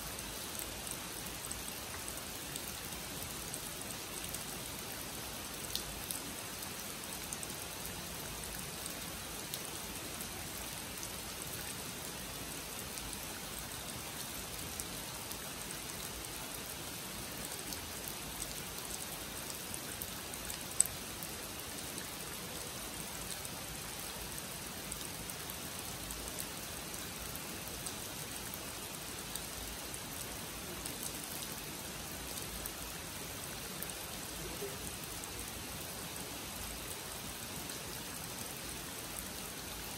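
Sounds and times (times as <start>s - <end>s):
rain falling on pond and foliage: 0.0s - 39.9s.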